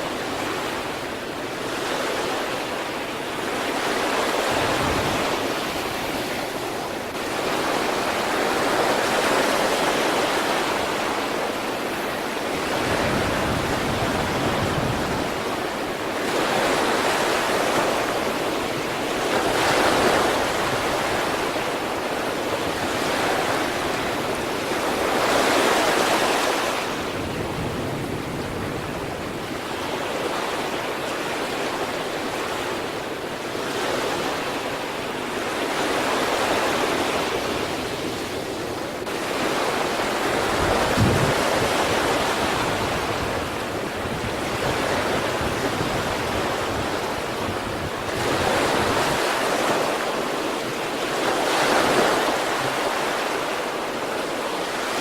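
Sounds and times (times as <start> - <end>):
sea waves breaking on shore: 0.0 - 55.0
wind on microphone: 0.0 - 55.0.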